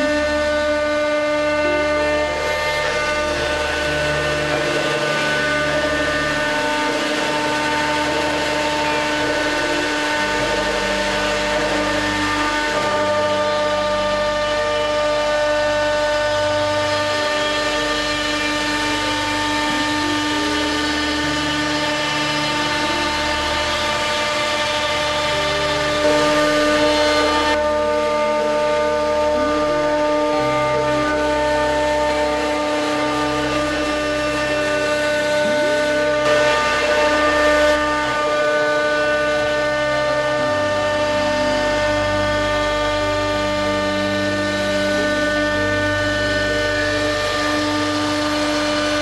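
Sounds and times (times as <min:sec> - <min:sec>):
router bit cutting wood: 0:00.0 - 0:49.0
router spindle whining: 0:00.0 - 0:49.0.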